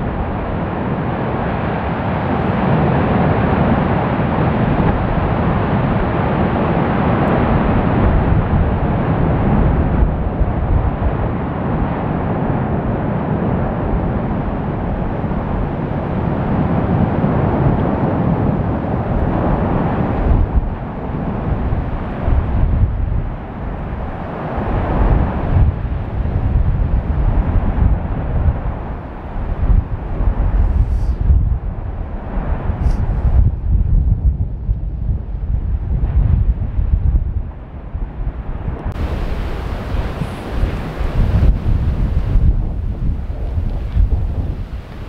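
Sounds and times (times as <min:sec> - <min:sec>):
volcanic vent erupting: 0:00.0 - 0:45.0.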